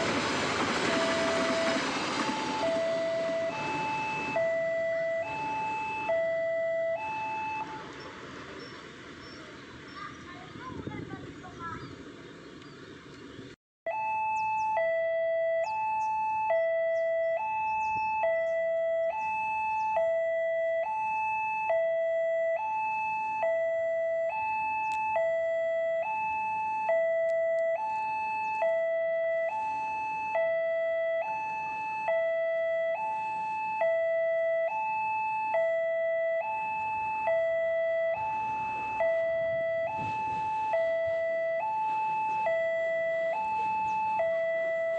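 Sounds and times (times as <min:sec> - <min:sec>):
level crossing two-tone alarm: 0:00.0 - 0:07.8, 0:13.9 - 0:44.9.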